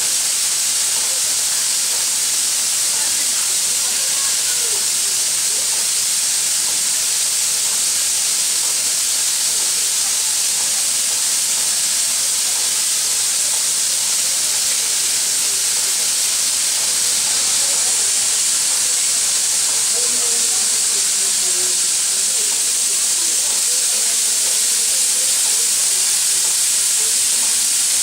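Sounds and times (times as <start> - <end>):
steam locomotive hissing steam: 0.0 - 28.0.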